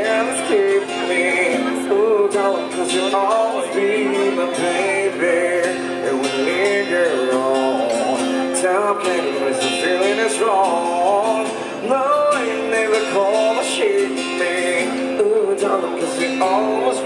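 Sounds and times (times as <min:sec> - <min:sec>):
acoustic guitar: 0:00.0 - 0:17.0
man singing into microphone: 0:00.0 - 0:17.0.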